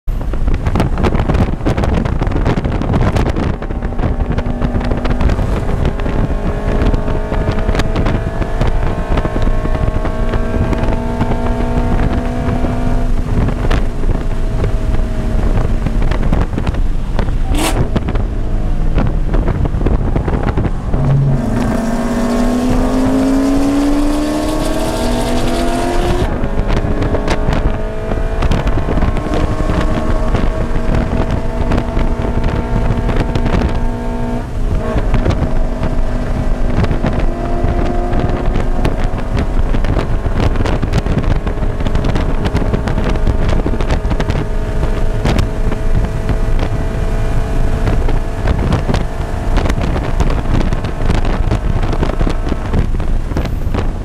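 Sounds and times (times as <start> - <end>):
wind and road noise: 0.0 - 54.0
car engine revving hard: 0.5 - 54.0.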